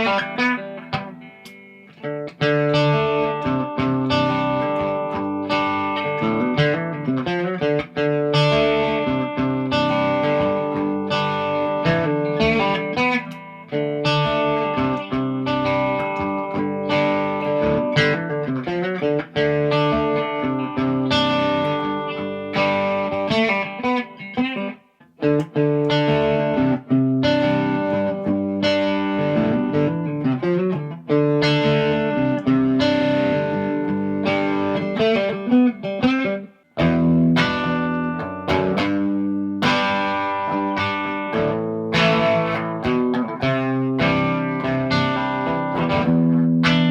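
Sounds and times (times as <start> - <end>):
electric guitar chords strummed: 0.0 - 46.9.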